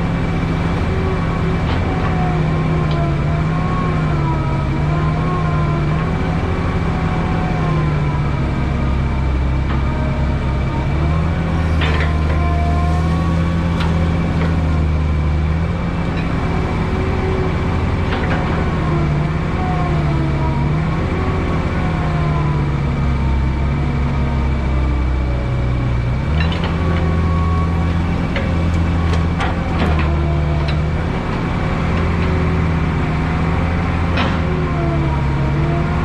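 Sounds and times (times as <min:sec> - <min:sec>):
diesel machine engine: 0:00.0 - 0:36.0.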